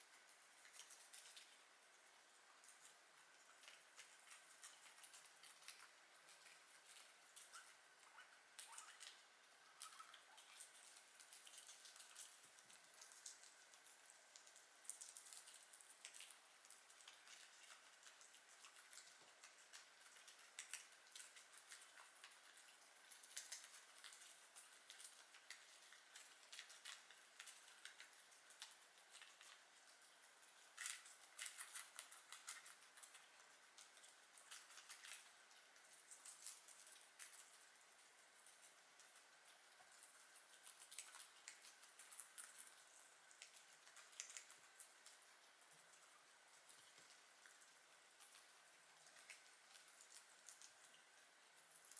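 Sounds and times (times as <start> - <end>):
guinea pigs chewing: 0.0 - 51.9.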